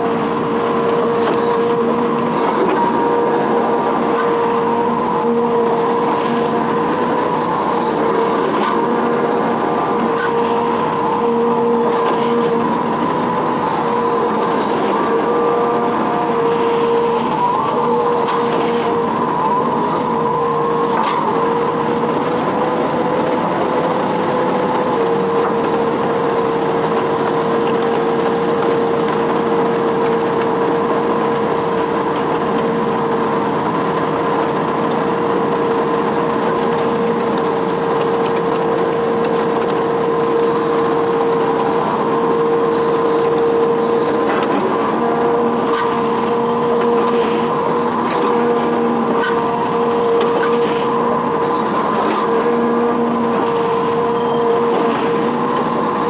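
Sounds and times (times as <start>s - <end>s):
excavator engine droning: 0.0s - 56.0s.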